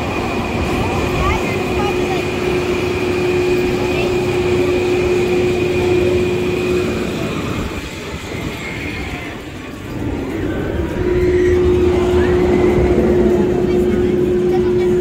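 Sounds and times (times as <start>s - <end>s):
lift machinery whining: 0.0s - 15.0s
outdoor crowd noise: 0.0s - 15.0s
wind: 0.0s - 15.0s.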